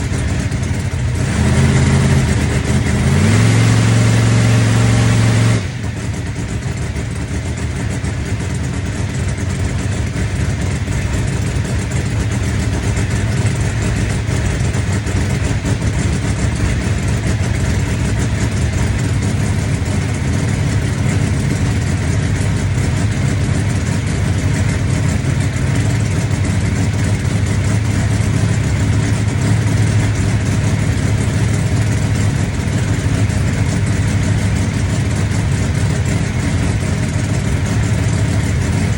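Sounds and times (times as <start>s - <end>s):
race car engine idling: 0.0s - 38.9s.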